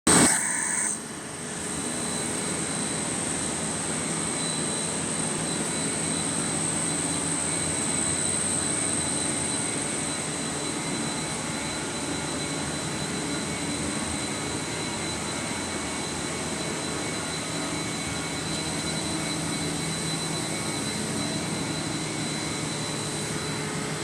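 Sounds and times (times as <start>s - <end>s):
machinery with high-pitched whine: 0.1s - 24.0s.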